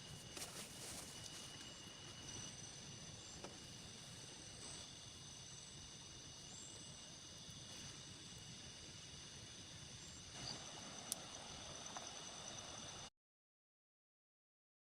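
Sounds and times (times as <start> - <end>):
insect trills: 0.0 - 13.1.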